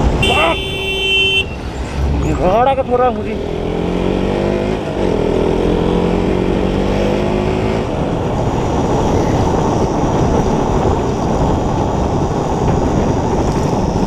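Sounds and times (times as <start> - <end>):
road noise: 0.0 - 14.0
wind rush on microphone: 0.0 - 14.0.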